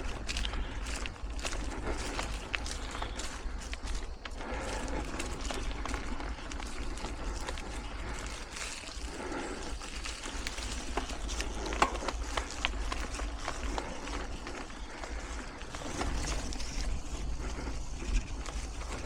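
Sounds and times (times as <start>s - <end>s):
bike clicks and rattles: 0.0s - 19.0s
bike tyres rolling on dirt: 0.0s - 19.0s
wind rumble on microphone: 0.0s - 19.0s.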